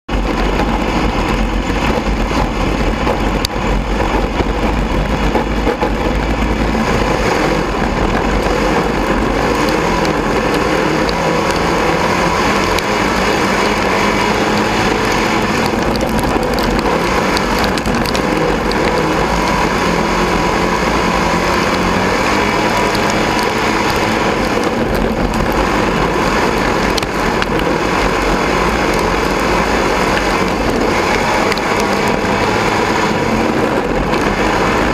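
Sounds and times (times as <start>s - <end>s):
car body rattling: 0.1s - 34.9s
race car engine running: 0.1s - 34.9s.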